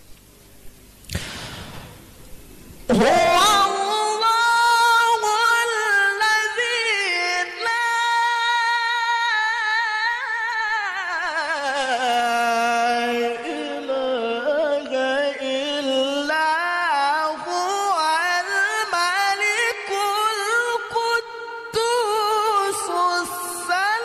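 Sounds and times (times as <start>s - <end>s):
man reciting melodically: 2.9s - 24.0s.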